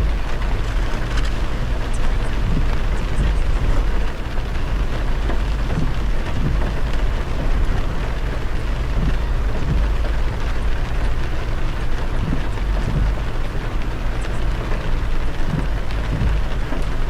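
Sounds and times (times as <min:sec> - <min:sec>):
deep road rumble: 0:00.0 - 0:17.0
heavy rain on a car: 0:00.0 - 0:17.0
tyres hissing on wet road: 0:00.0 - 0:17.0.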